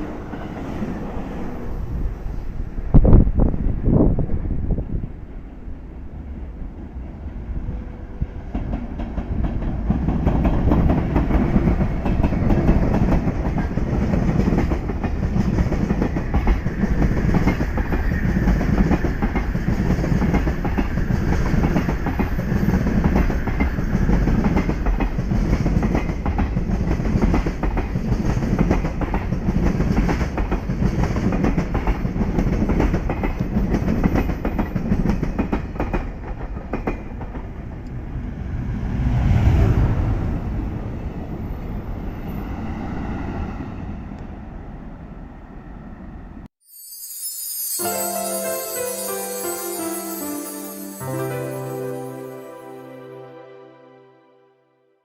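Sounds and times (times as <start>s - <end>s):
freight train passing: 0.0s - 54.2s.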